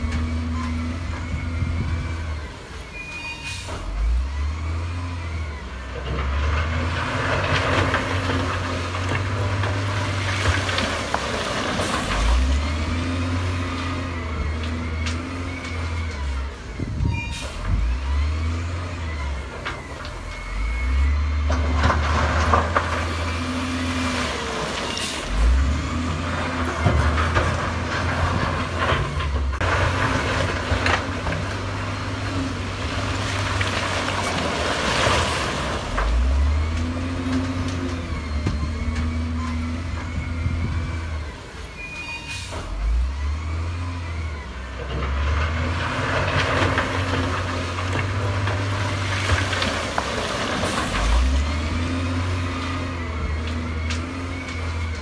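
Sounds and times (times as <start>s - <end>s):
diesel machinery revving: 0.0s - 55.0s.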